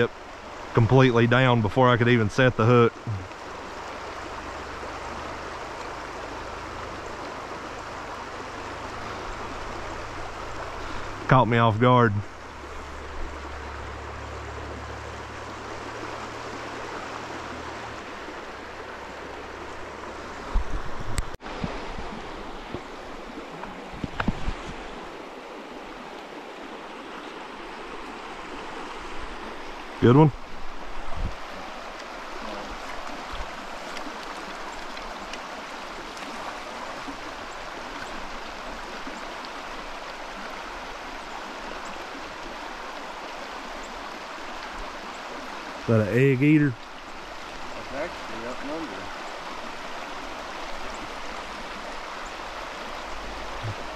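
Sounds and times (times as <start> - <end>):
stream rushing: 0.0 - 53.9.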